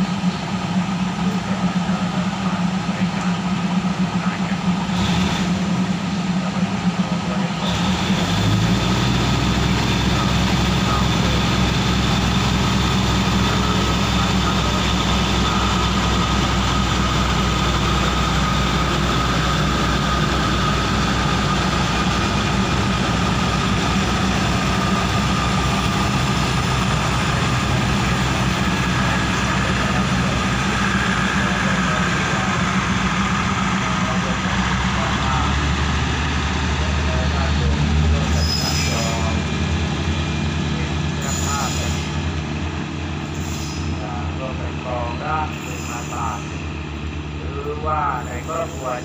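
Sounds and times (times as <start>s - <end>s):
diesel train engine idling: 0.0s - 49.0s.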